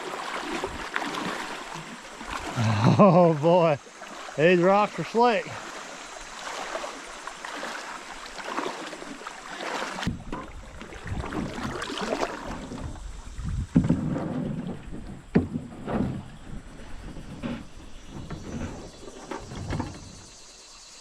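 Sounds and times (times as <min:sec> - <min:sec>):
water splashing around a canoe: 0:00.0 - 0:20.6.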